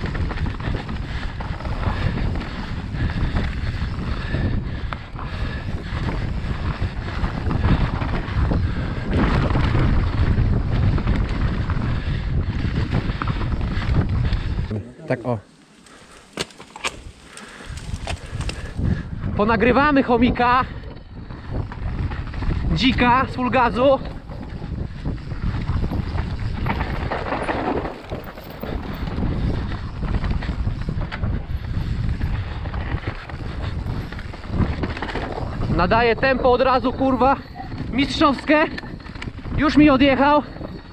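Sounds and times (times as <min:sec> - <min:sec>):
bike clicks and rattles: 0:00.0 - 0:14.8, 0:15.5 - 0:40.9
bike tyre noise on dirt: 0:00.0 - 0:40.9
wind buffeting microphone: 0:00.0 - 0:40.9.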